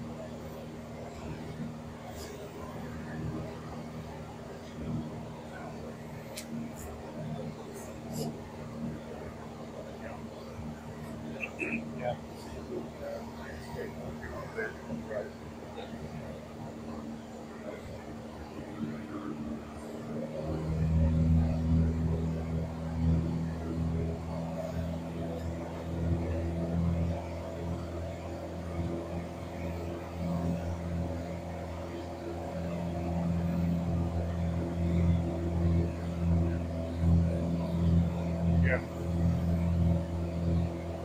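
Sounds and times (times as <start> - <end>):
light aircraft engine drone: 0.0 - 41.0.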